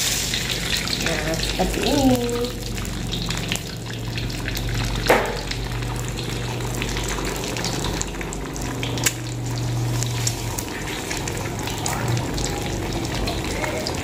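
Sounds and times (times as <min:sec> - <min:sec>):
eggs sizzling in oil: 0:00.0 - 0:14.0
oil popping: 0:00.0 - 0:14.0.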